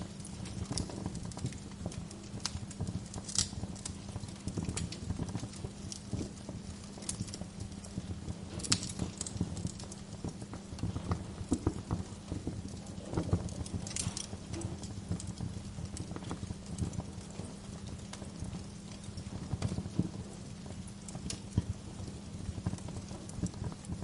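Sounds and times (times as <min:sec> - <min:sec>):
low steady hum: 0:00.0 - 0:24.0
wood fire crackling: 0:00.0 - 0:24.0.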